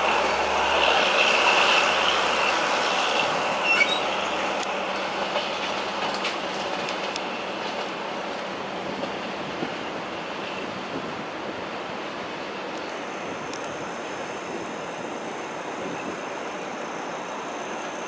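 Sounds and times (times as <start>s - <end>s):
train rail noise: 0.0s - 18.0s.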